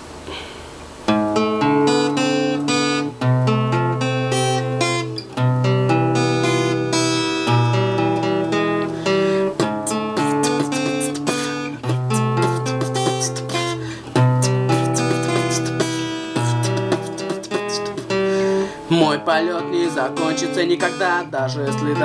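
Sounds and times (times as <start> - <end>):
acoustic guitar picked chords: 1.0 - 22.0.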